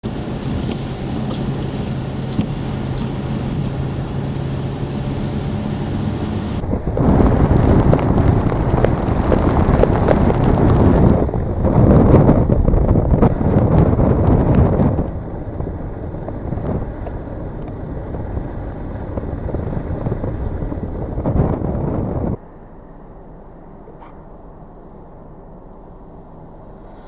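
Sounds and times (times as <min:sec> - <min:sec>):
wind noise on microphone: 0:00.0 - 0:22.4
vehicle engine hum: 0:00.0 - 0:27.0.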